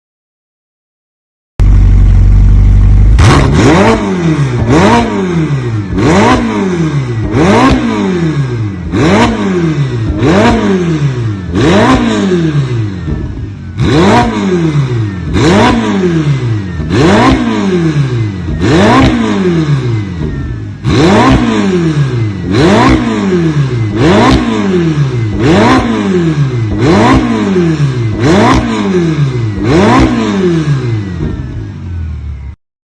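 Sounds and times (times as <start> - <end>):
car engine revving: 1.6 - 32.6.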